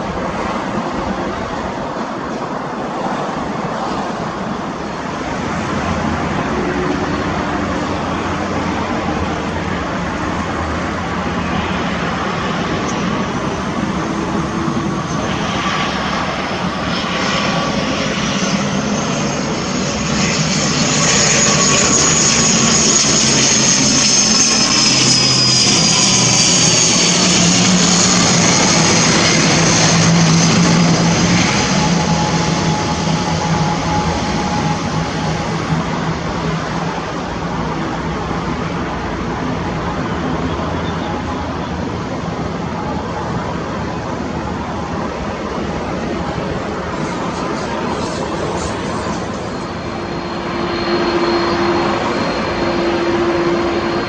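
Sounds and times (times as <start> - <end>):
turboprop airliner passing: 0.0 - 54.0.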